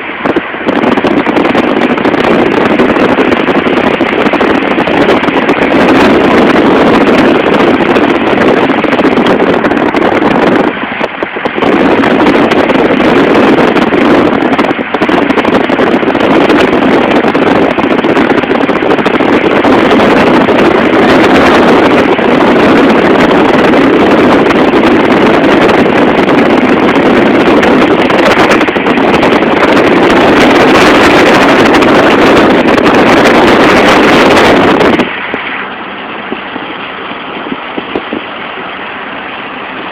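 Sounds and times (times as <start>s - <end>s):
wind and road noise in car: 0.0s - 39.9s.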